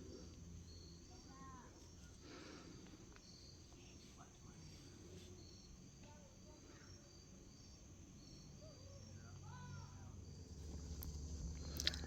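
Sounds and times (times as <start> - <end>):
faint insect chirping: 0.0 - 12.0.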